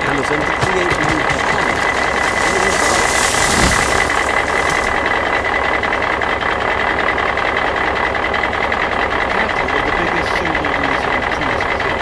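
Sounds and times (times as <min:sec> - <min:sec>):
heavy engine running: 0:00.0 - 0:12.0.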